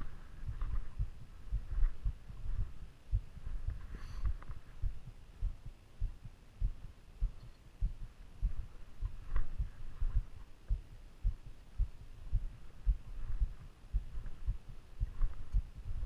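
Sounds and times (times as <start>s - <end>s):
muffled low thumps and rumble: 0.0s - 16.0s.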